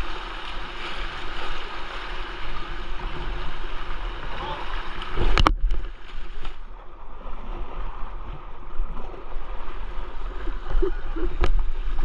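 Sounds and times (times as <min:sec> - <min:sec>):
paddle strokes splashing: 0:00.0 - 0:12.0
river water rushing over stones: 0:00.0 - 0:12.0.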